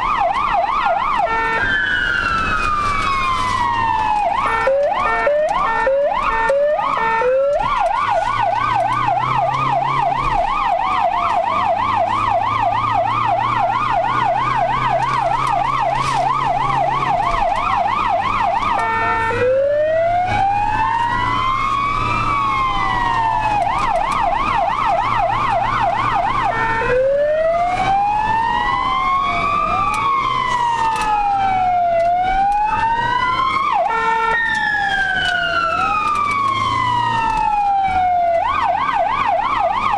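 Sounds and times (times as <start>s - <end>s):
ambulance siren: 0.0s - 39.9s.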